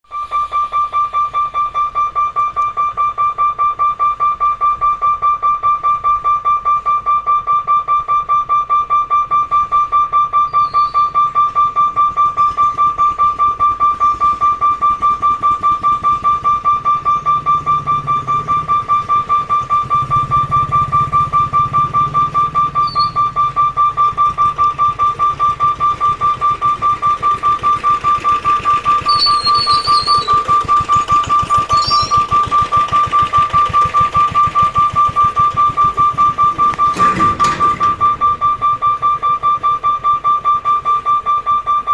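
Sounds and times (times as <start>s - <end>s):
level crossing alarm pulsing tone: 0.0s - 41.9s.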